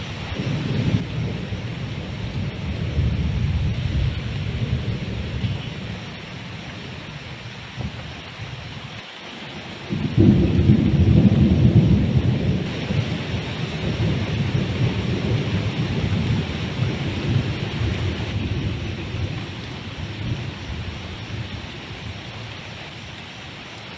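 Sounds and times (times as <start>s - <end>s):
thunder rolling: 0.0s - 7.0s, 9.9s - 22.3s
heavy rain falling: 0.0s - 23.9s.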